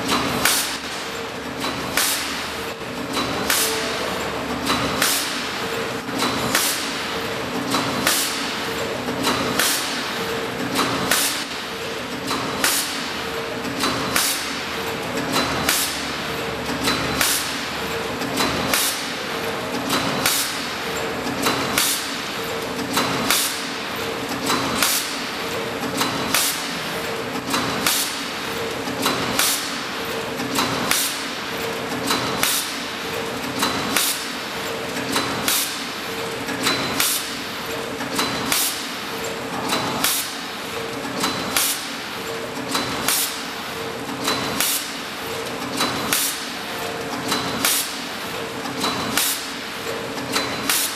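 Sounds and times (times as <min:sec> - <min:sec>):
packaging machine sharp clack: 0:00.0 - 0:50.9
steady mechanical hum: 0:00.0 - 0:50.9.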